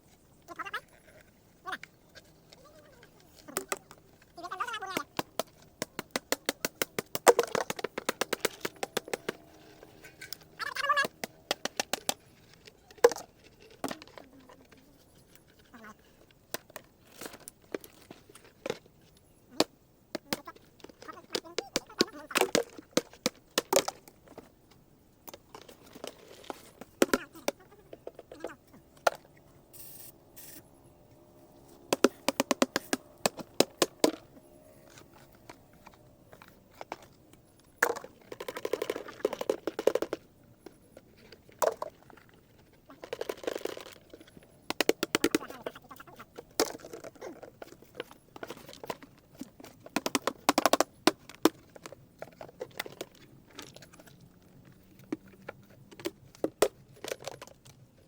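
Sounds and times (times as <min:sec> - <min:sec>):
dried gourds cracking and knocking: 0:00.0 - 0:30.4, 0:31.2 - 0:58.0.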